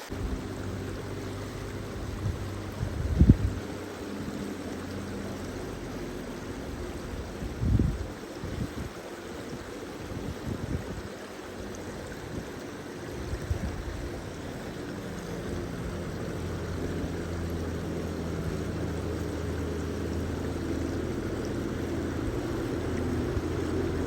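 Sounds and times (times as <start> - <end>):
motor droning hum: 0.0 - 24.0
rushing background noise: 0.0 - 24.0.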